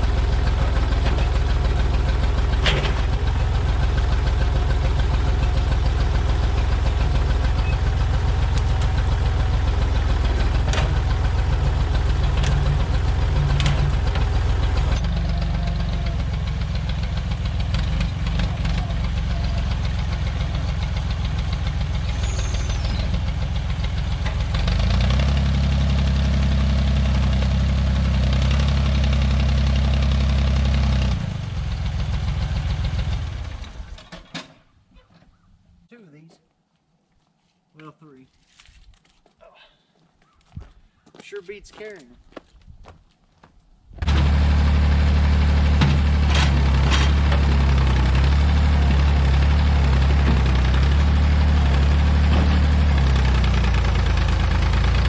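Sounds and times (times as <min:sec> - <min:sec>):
tractor engine running: 0:00.0 - 0:34.3, 0:44.0 - 0:55.0.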